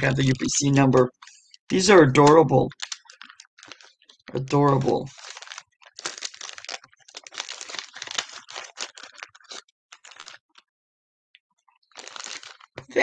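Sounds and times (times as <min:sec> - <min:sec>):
packaging rustling and crackling: 0:00.0 - 0:10.7, 0:11.7 - 0:13.0.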